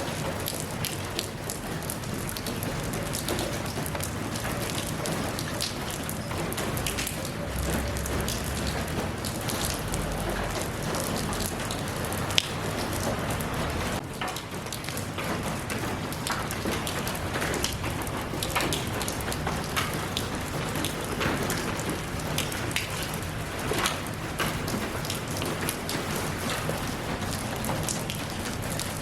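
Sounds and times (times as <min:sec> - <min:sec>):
raindrops hitting a surface: 0:00.0 - 0:29.0
steady rain falling: 0:00.0 - 0:29.0.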